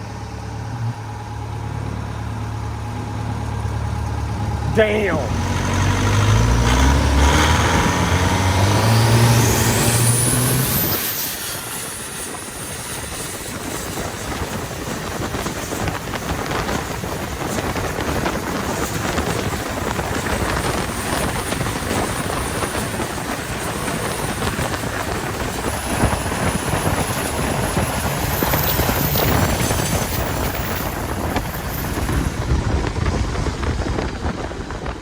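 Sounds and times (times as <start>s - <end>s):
racing boat engine running hard: 0.0s - 35.0s
wind noise: 2.7s - 35.0s.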